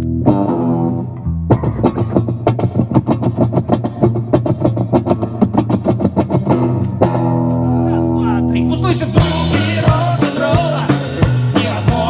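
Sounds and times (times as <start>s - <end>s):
electric guitar fast picked notes: 0.1s - 12.0s.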